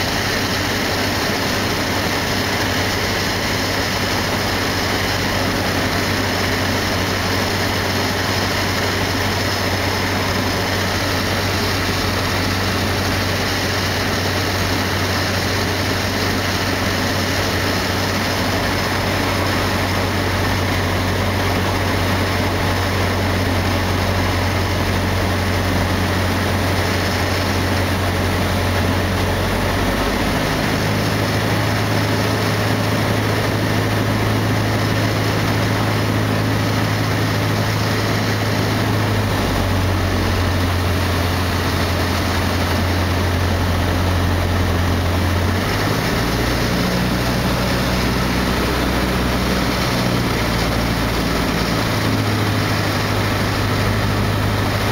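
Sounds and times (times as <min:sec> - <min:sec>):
light aircraft engine drone: 0:00.0 - 0:54.9.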